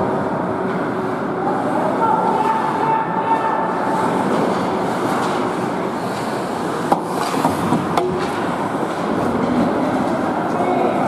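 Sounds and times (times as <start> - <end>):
arena noise: 0.0 - 11.0.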